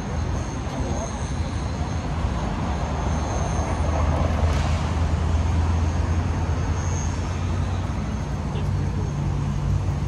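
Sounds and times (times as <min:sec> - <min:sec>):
road noise: 0:00.0 - 0:10.0
traffic engine drone: 0:00.0 - 0:10.0.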